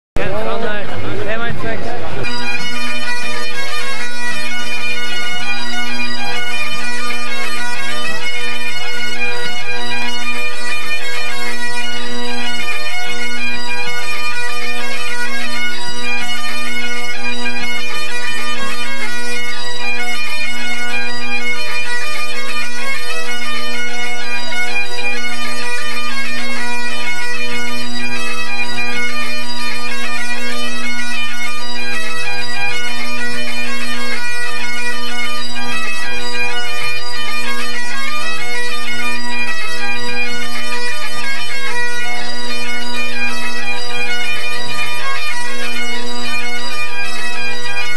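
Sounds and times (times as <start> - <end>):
pipe band bagpipes playing: 0.2 - 47.9.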